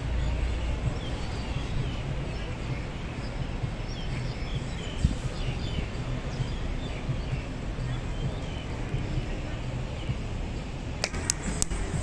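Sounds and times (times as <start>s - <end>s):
low city rumble: 0.0s - 12.0s
small birds chirping: 0.0s - 12.0s.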